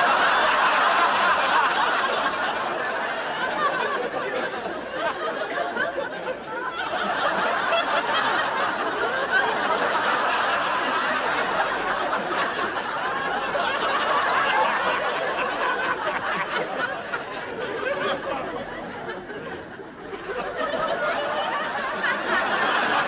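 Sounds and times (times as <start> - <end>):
audience laughing: 0.0 - 23.0.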